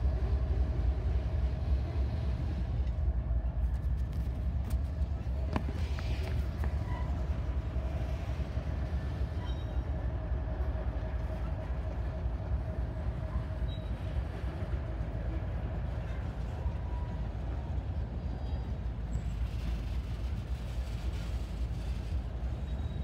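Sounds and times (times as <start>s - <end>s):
train cars rumbling on rails: 0.0s - 23.0s.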